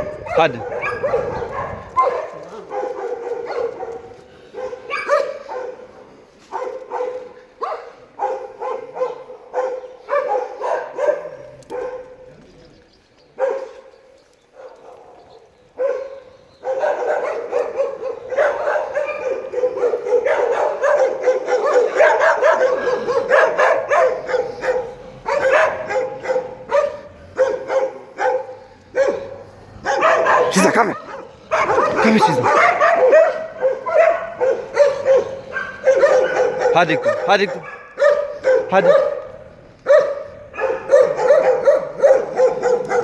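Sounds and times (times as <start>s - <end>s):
dogs barking: 0.0s - 12.5s, 13.3s - 43.0s.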